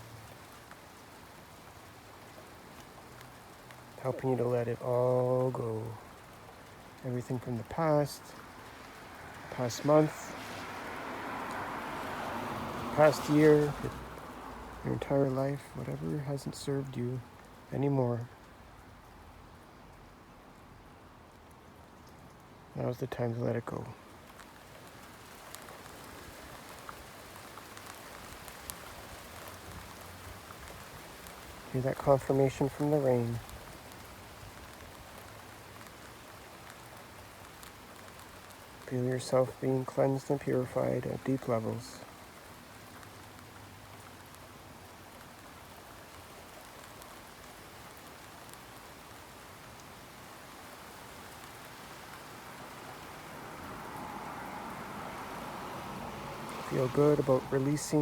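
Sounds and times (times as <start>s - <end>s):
light rain falling: 0.0s - 58.0s
raindrops ticking: 0.0s - 58.0s.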